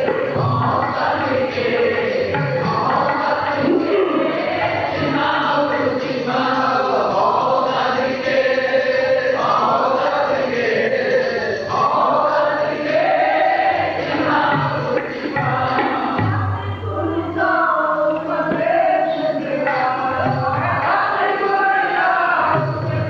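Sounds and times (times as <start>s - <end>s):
men singing devotional song: 0.0s - 16.7s, 17.3s - 23.0s
harmonium: 0.0s - 23.0s
tabla: 0.0s - 23.0s.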